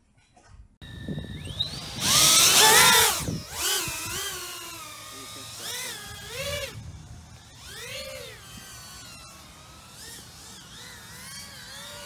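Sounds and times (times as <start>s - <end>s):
quadcopter motors whining: 0.8s - 12.0s.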